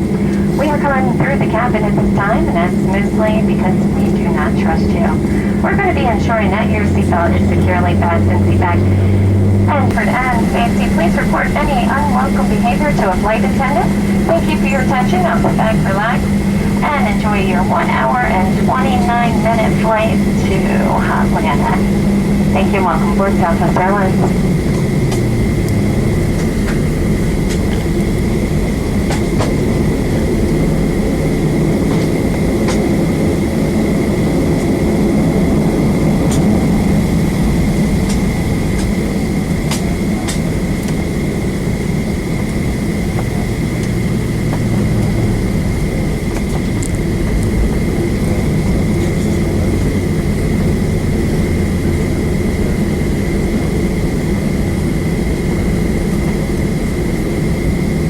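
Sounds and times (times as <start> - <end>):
high whine: 0.0 - 58.0
low engine rumble: 0.0 - 58.0.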